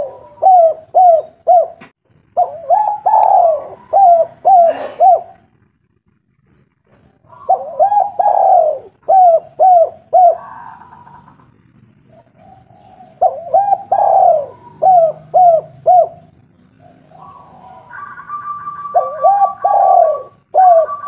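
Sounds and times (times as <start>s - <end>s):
dove cooing: 0.0s - 5.5s, 7.1s - 21.0s.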